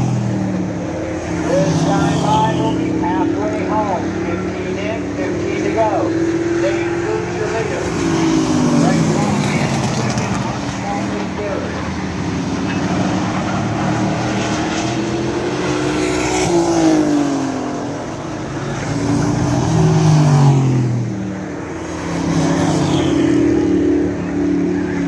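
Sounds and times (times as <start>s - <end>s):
race truck engines passing by: 0.0s - 25.0s.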